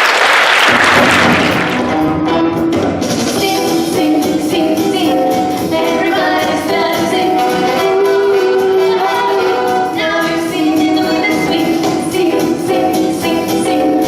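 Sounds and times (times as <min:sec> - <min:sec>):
live pop-jazz ensemble: 0:00.4 - 0:14.0.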